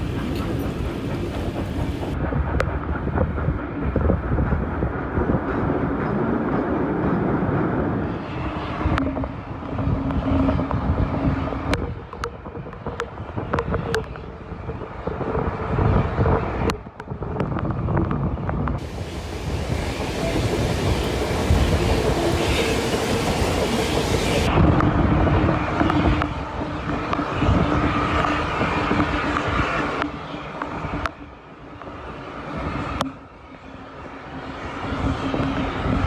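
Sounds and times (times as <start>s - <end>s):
train wheels rumbling on rails: 0.0s - 36.0s
wind buffeting microphone: 0.0s - 36.0s.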